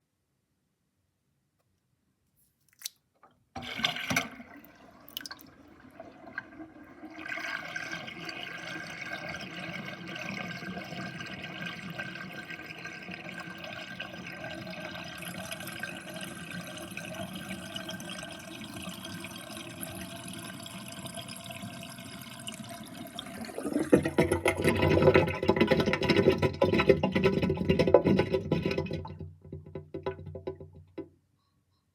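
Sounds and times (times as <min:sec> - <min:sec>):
sink drain gurgling: 0:03.6 - 0:30.8.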